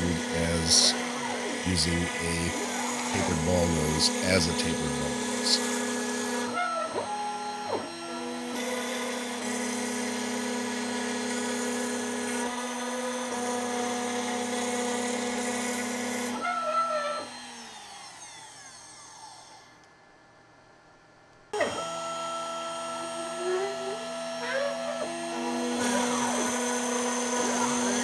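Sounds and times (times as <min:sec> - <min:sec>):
gliding machine whines: 0:00.0 - 0:19.8, 0:21.6 - 0:28.0
router spindle running: 0:00.0 - 0:19.8, 0:21.6 - 0:28.0.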